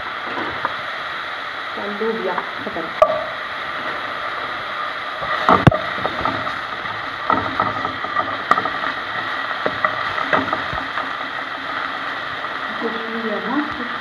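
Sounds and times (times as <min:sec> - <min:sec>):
onion and paste sizzling in pot: 0:00.0 - 0:14.0.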